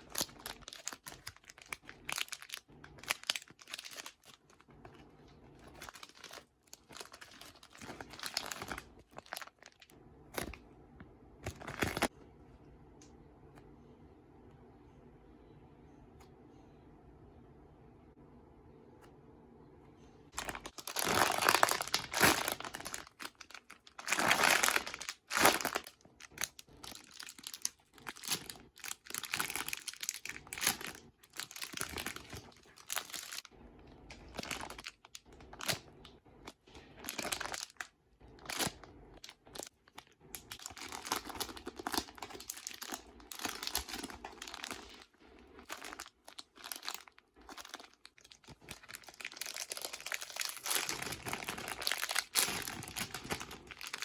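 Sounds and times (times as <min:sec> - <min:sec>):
plastic crinkling and rustling: 0:00.0 - 0:10.6, 0:11.4 - 0:12.1, 0:20.3 - 0:54.0.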